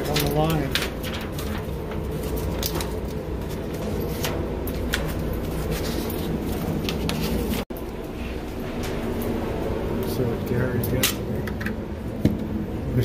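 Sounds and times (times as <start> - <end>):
ventilation rumble and hum: 0.0 - 13.0.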